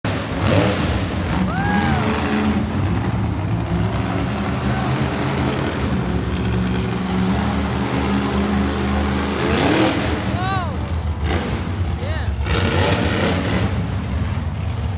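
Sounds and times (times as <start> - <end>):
monster truck engine revving: 0.1 - 14.9.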